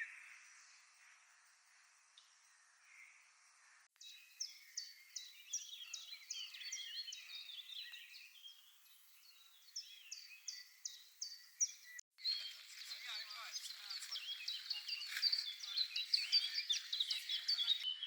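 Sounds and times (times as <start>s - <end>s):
birds twittering: 0.0s - 18.0s.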